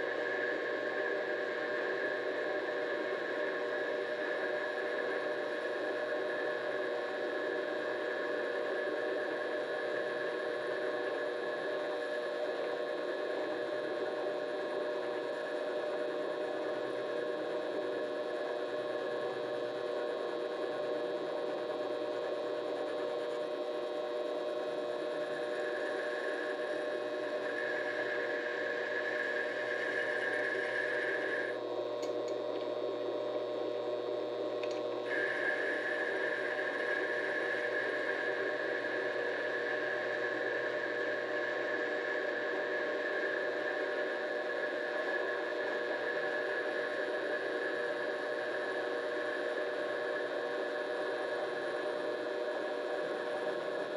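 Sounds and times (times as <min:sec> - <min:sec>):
lathe motor and gear whine: 0:00.0 - 0:53.9.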